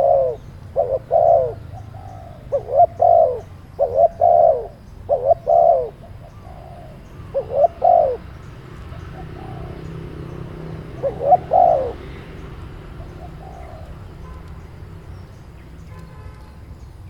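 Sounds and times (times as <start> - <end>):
dove cooing: 0.0 - 14.4.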